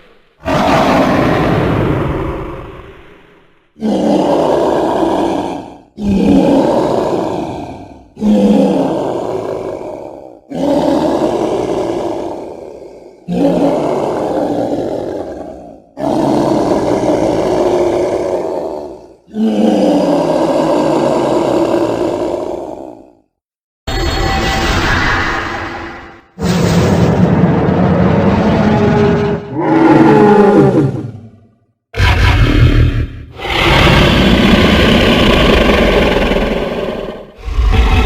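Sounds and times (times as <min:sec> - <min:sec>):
dinosaur roars: 0:00.0 - 0:23.3, 0:26.4 - 0:38.0.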